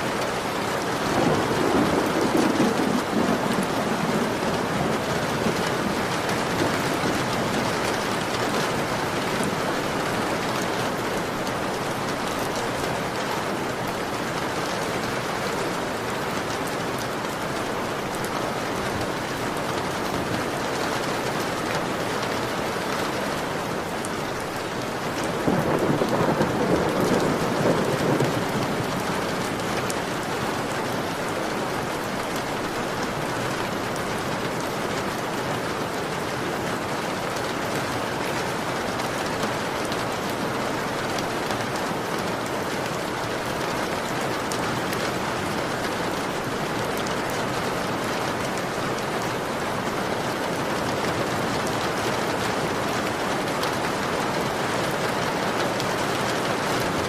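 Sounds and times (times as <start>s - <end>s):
heavy rain on window: 0.0s - 57.0s.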